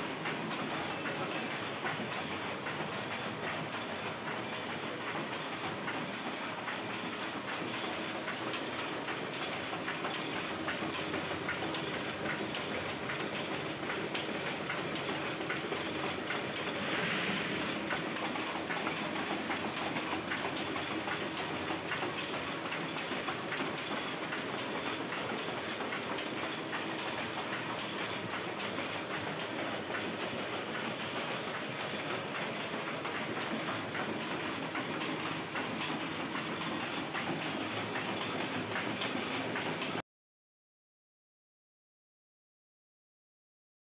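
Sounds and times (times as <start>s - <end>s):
constant hiss: 0.0s - 40.0s
printing press ticking clatter: 0.0s - 40.0s.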